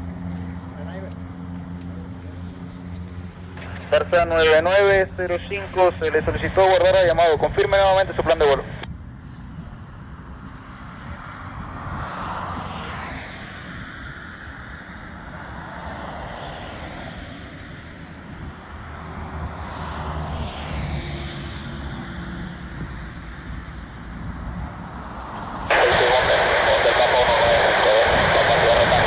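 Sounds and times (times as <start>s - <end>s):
distant turboprop plane drone: 0.0s - 29.0s.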